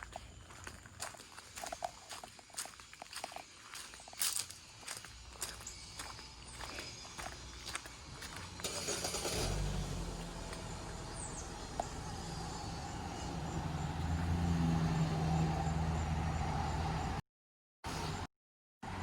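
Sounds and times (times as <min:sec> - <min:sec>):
vehicle engine humming: 0:00.0 - 0:17.2.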